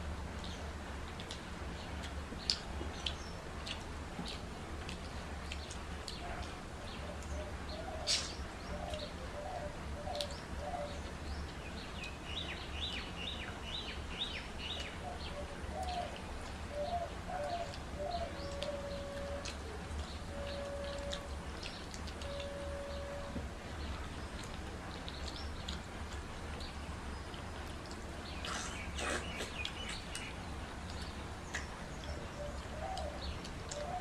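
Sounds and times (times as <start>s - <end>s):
birds calling: 0.4s - 34.0s.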